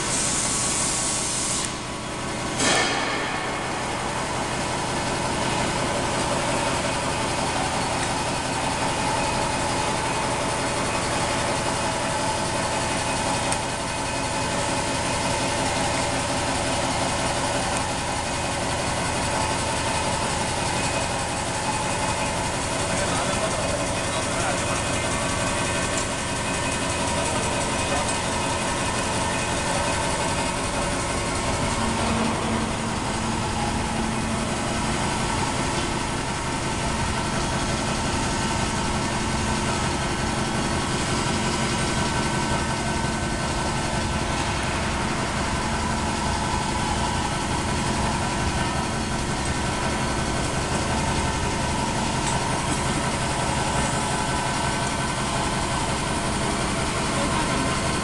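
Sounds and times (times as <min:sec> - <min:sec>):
constant machine whine: 0:00.0 - 0:58.0
milling machine drone: 0:01.6 - 0:58.0.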